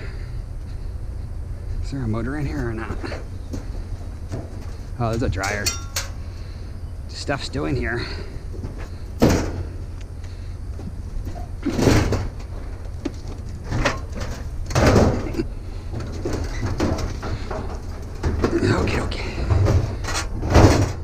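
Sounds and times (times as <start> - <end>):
steady low rumble: 0.0 - 20.6.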